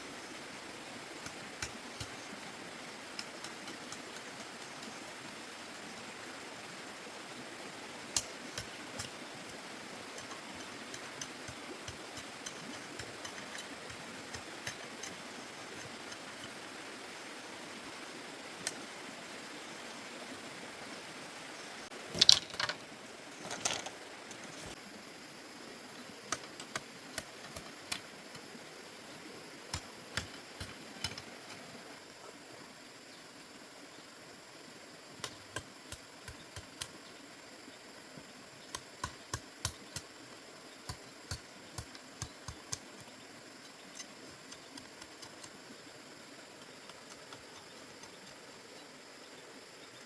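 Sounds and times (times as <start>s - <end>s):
steady background hiss: 0.0s - 50.0s.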